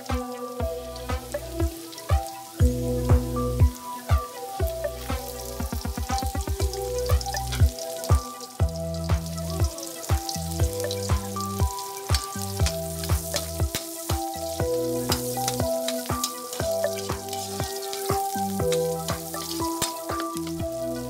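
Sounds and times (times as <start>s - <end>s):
electronic beat music: 0.0s - 21.0s
garlic and onion sizzling in a wok: 0.0s - 21.0s.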